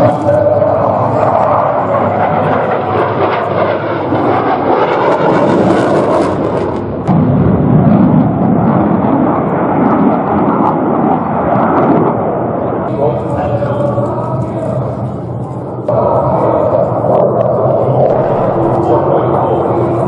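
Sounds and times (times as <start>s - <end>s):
jet engine afterburner roar: 0.0s - 20.0s.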